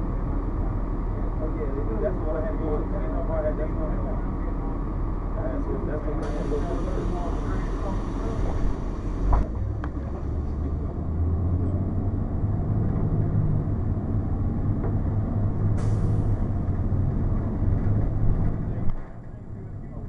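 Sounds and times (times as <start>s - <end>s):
diesel bus engine drone: 0.0s - 20.0s.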